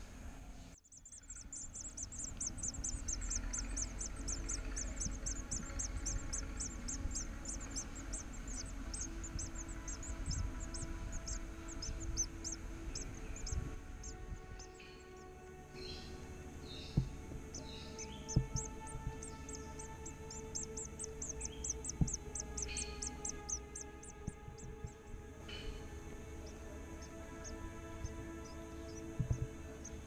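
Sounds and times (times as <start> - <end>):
nestlings begging cheeps: 0.8 - 25.8.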